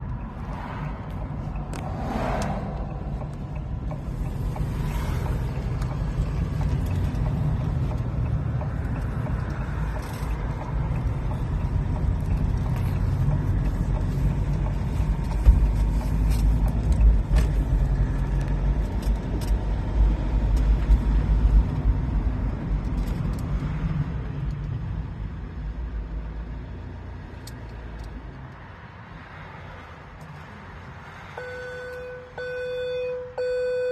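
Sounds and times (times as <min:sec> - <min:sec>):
van engine rumble: 0:00.0 - 0:29.0.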